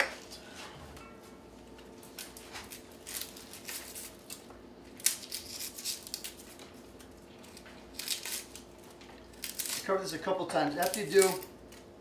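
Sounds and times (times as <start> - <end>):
faint steady hum: 0.0 - 12.0
onion skin rustling and crinkling: 1.6 - 12.0.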